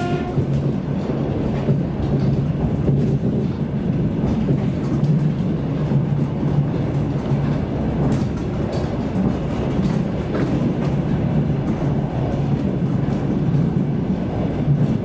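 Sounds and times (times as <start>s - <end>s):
electric train running hum: 0.0s - 15.0s.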